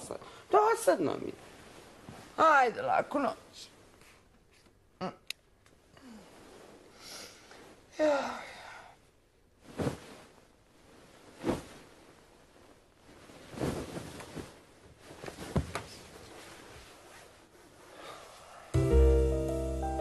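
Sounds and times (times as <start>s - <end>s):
bedclothes rustling: 0.3s - 4.9s, 5.8s - 8.0s, 9.1s - 18.7s.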